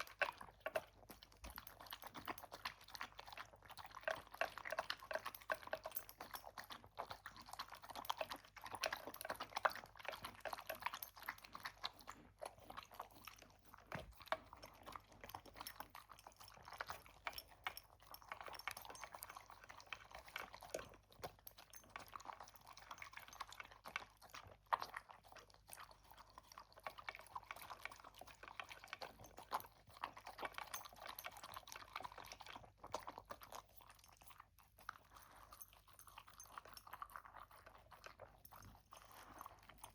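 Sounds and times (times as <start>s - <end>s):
pet chewing crunchy food: 0.0s - 39.9s.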